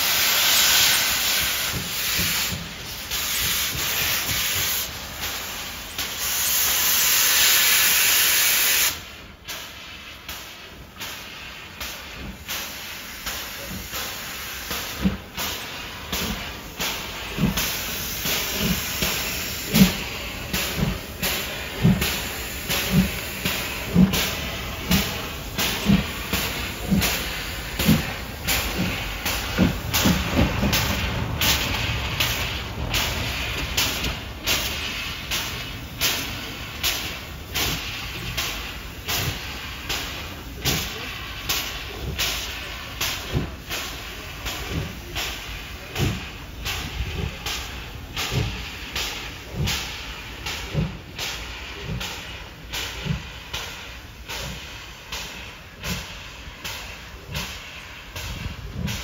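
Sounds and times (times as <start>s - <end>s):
steam hissing: 0.0s - 59.0s
steam locomotive exhaust chuffs: 0.0s - 59.0s.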